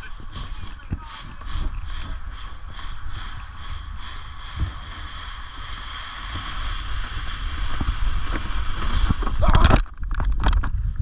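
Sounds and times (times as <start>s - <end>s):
sled scraping over snow: 0.0s - 10.5s
low bumps: 0.0s - 11.0s
wind on microphone: 0.0s - 11.0s.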